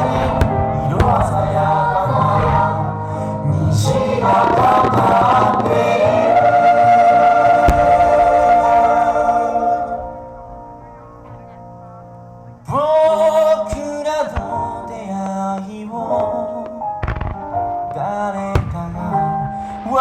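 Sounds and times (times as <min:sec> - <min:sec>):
pop ballad with sung vocals: 0:00.0 - 0:10.6, 0:12.7 - 0:20.0
firework bang: 0:00.0 - 0:20.0.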